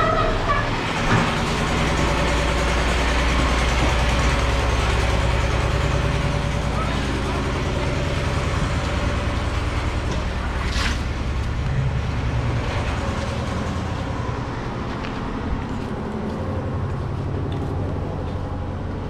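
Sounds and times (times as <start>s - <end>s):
engine pulsing rumble: 0.0s - 19.0s.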